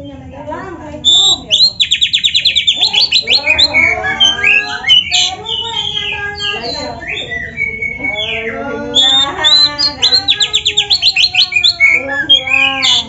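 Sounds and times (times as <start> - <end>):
bird singing whistled song: 1.0 - 13.0.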